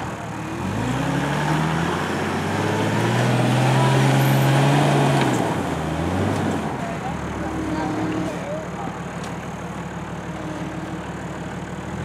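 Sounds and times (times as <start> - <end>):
car engine working under load: 0.0 - 12.0.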